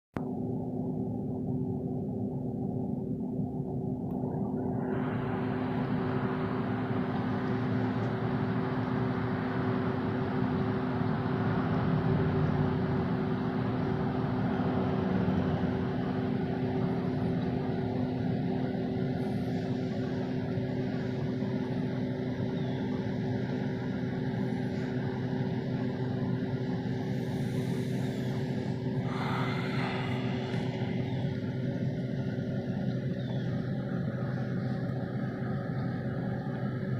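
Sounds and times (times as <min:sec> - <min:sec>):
machine humming: 0:00.2 - 0:36.9.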